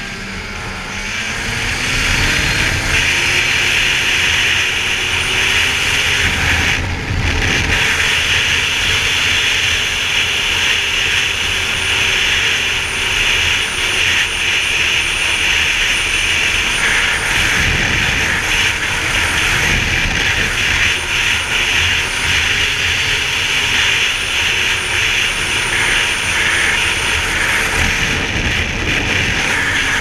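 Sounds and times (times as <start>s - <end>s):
snowmobile engine and track drone: 0.0s - 30.0s
wind rumbling on microphone: 0.0s - 30.0s.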